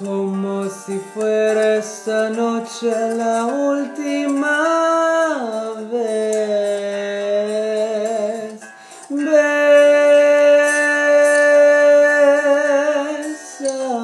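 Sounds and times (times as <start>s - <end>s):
man singing a slow ballad: 0.0s - 14.0s.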